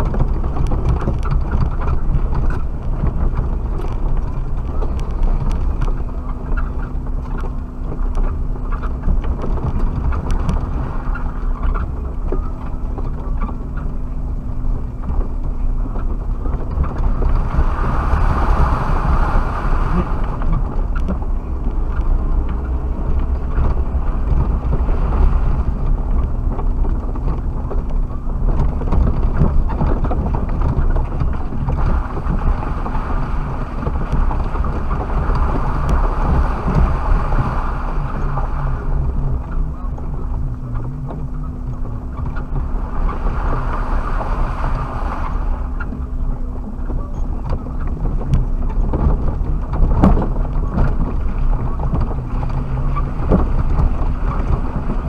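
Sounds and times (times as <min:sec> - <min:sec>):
engine hum: 0:00.0 - 0:55.0
vehicle rumbling over rough ground: 0:00.0 - 0:55.0.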